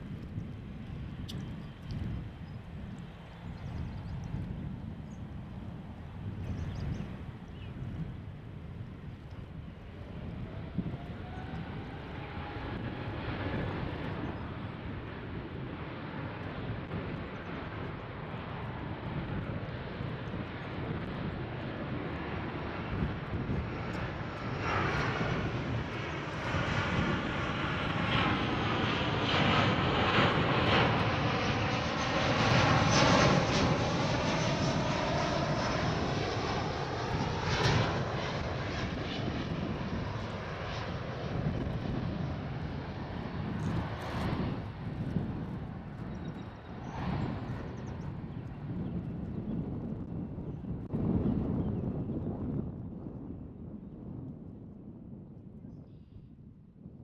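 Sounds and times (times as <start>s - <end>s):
jet engines passing: 0.0s - 55.6s.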